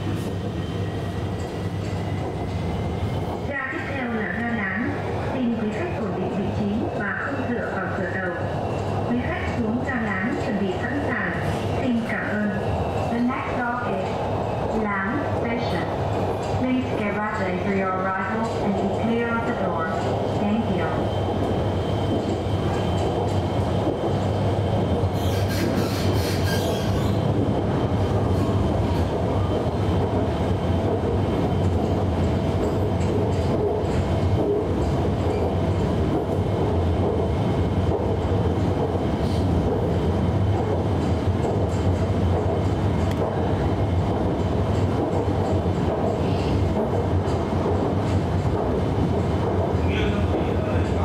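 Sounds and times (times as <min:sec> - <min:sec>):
train car running rumble: 0:00.0 - 0:51.0.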